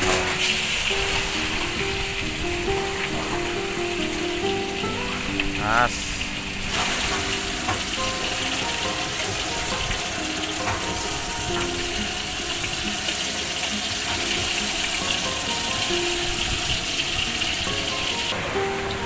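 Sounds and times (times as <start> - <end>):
fish frying in oil: 0.0 - 19.0
instrumental background music: 0.0 - 19.0.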